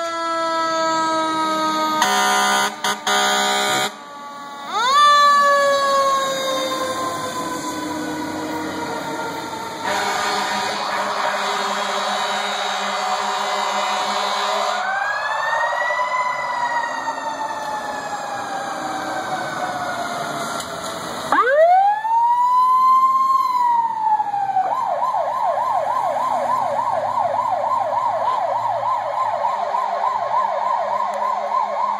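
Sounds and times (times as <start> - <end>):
fire truck siren wailing: 0.0 - 31.9.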